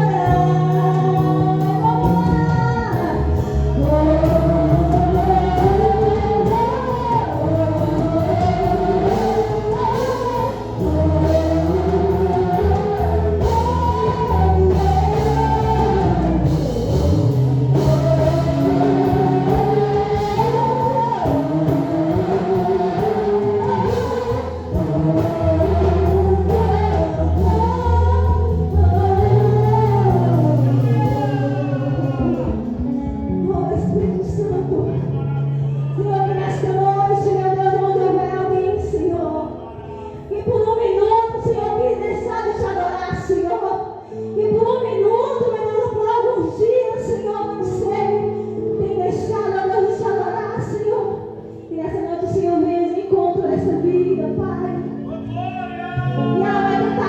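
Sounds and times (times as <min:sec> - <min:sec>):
gospel singing over band: 0:00.0 - 0:57.0.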